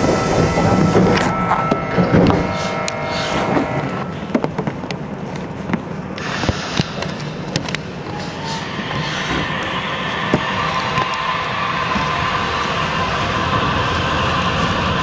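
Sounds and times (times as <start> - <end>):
sharp clacks of train: 0.0 - 15.0
subway car running whine: 0.0 - 15.0.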